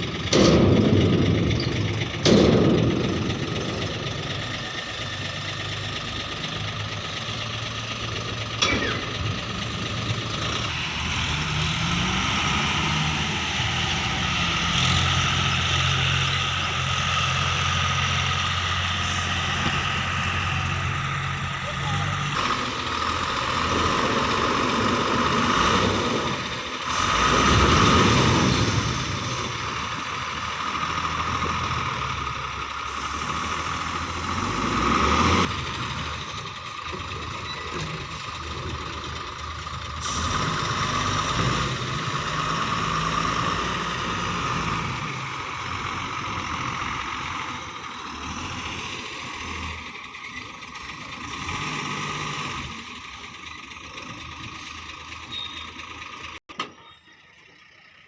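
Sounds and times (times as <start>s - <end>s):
diesel engine revving under load: 0.0s - 56.4s.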